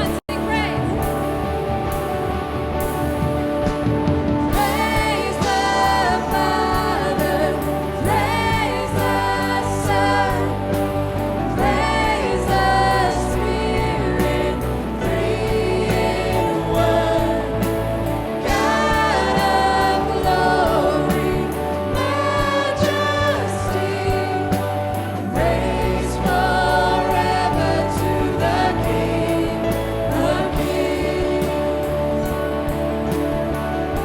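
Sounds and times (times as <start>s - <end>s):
voices singing: 0.0s - 2.8s, 4.4s - 34.0s
band with steady bass: 0.0s - 34.0s.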